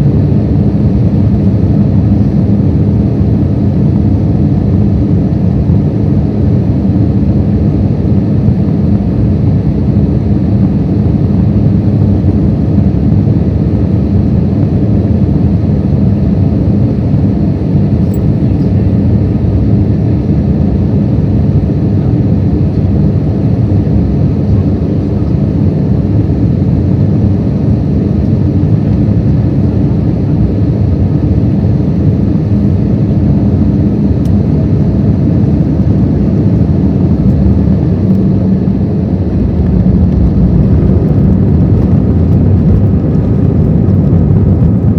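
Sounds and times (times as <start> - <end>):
airliner cabin rumble: 0.0 - 44.9.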